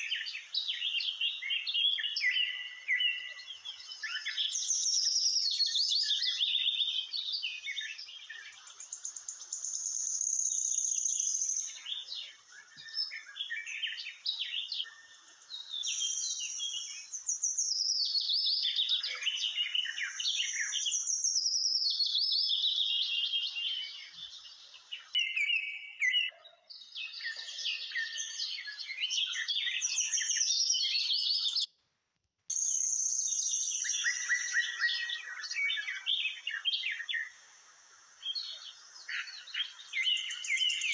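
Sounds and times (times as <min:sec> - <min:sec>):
small birds chirping and singing: 0:00.0 - 0:31.8, 0:32.5 - 0:40.9.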